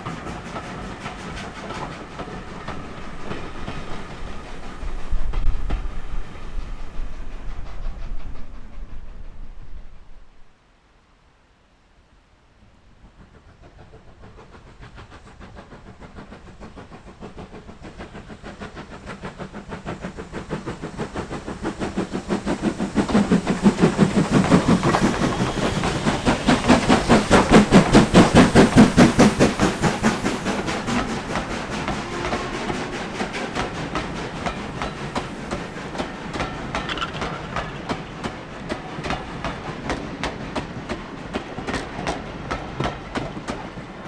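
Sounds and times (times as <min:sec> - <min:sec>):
steam locomotive exhaust beats: 0:00.0 - 0:10.4, 0:12.5 - 0:44.0.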